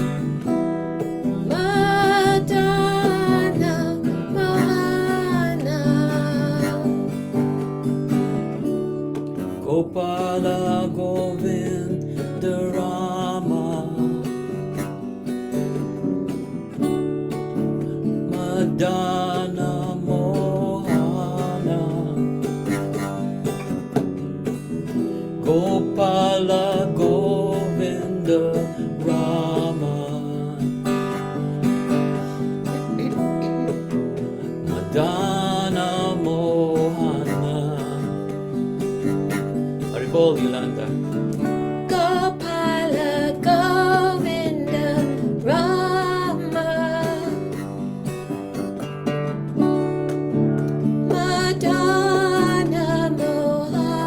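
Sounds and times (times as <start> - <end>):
strummed acoustic guitar: 0.0 - 54.0.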